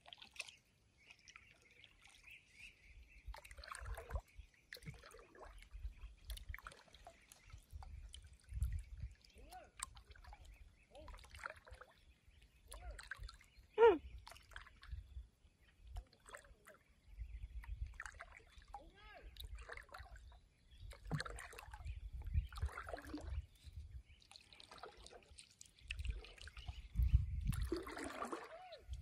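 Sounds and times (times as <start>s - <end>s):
light water sounds: 0.0s - 29.0s.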